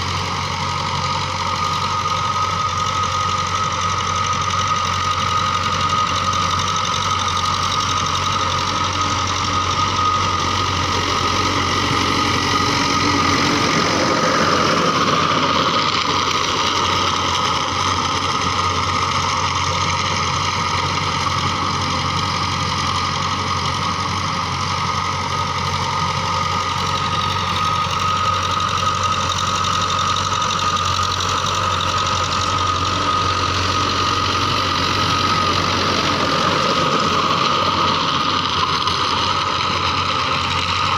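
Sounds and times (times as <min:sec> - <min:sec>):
high whine: 0:00.0 - 0:40.9
tractor diesel engine running: 0:00.0 - 0:40.9.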